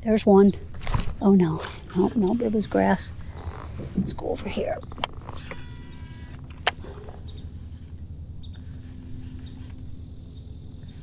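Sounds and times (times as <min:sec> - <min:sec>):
insects chirring: 0:00.0 - 0:11.0
low steady rumble: 0:00.0 - 0:11.0.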